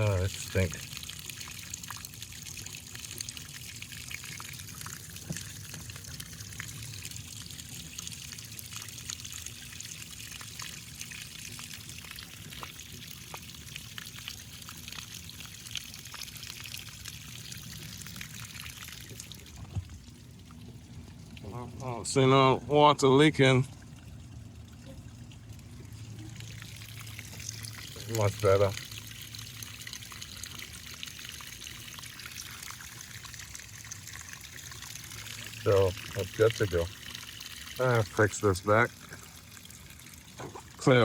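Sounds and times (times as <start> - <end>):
water pouring down waterfall: 0.0 - 20.4, 24.8 - 41.0.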